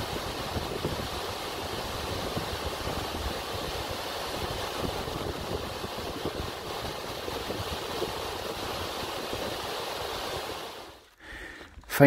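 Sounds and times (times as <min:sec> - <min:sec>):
waterfall rushing into pool: 0:00.0 - 0:11.1.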